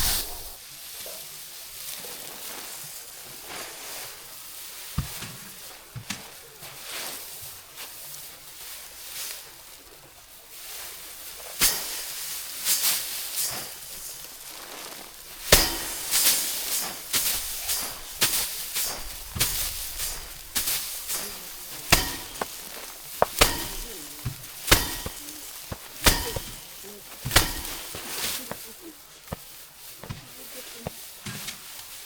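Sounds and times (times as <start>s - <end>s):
rice stalks being threshed: 0.0s - 32.0s
rustling of grain and straw: 0.0s - 32.0s.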